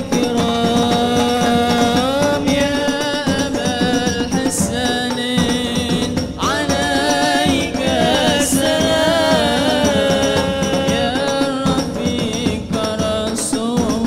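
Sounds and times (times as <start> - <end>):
frame drums and barrel drums: 0.0 - 14.0
man singing through microphone: 0.0 - 14.0.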